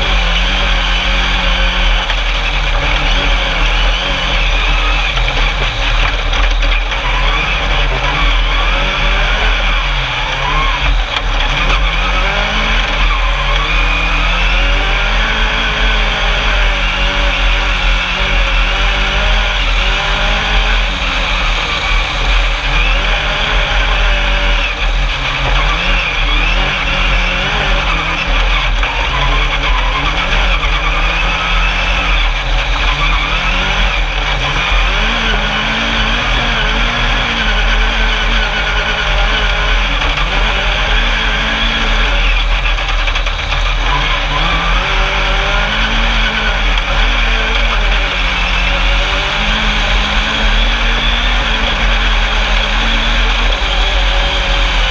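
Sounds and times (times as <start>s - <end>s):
buggy engine revving: 0.0s - 54.9s.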